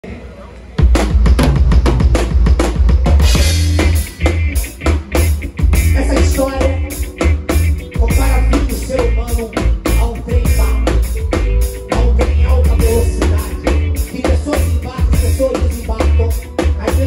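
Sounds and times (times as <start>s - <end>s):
drum kit beat: 0.8s - 17.0s
electric bass playing low line: 0.8s - 17.0s
mid-range instruments: 0.8s - 17.0s.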